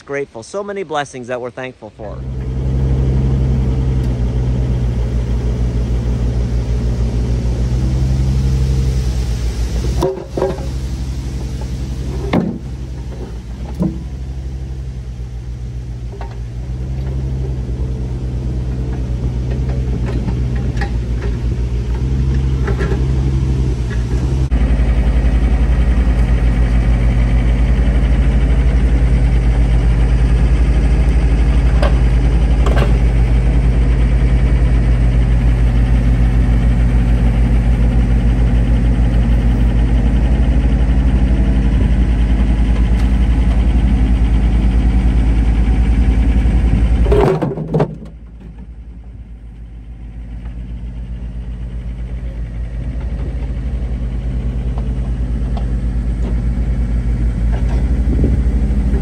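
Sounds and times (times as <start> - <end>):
diesel engine running: 0.0 - 59.0
quiet engine hum: 0.0 - 59.0.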